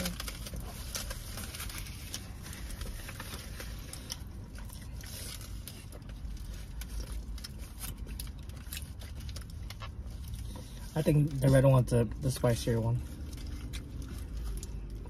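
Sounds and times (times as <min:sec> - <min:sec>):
person chewing: 0:00.3 - 0:10.9, 0:13.1 - 0:15.0.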